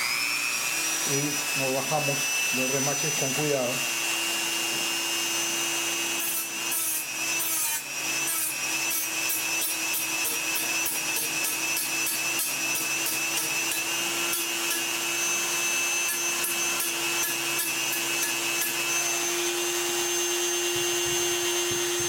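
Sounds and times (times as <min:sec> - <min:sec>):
rotary tool motor whine: 0:00.0 - 0:22.0.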